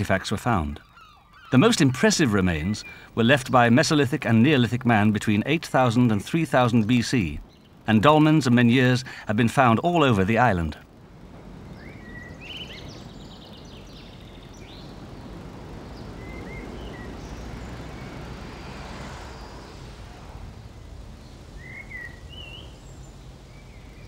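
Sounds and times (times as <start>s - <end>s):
outdoor background hiss: 0.0s - 24.0s
small birds chirping: 0.0s - 24.0s.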